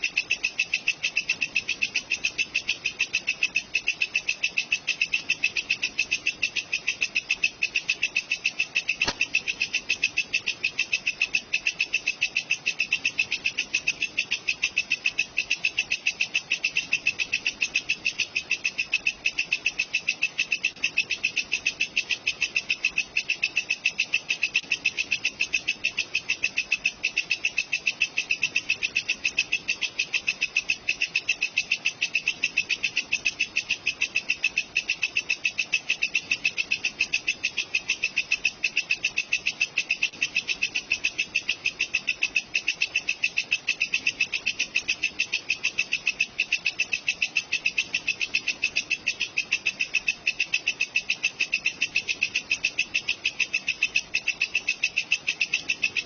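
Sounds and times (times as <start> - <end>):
bush cricket chirping: 0.0 - 56.0.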